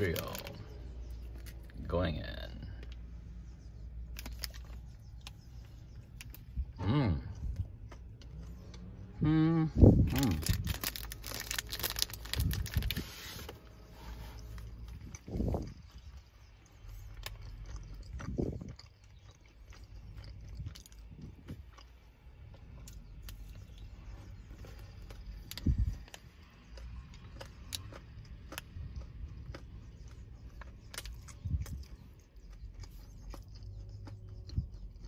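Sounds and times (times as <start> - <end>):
chewing fruit bar: 0.0 - 35.0
low steady rumble: 0.0 - 35.0.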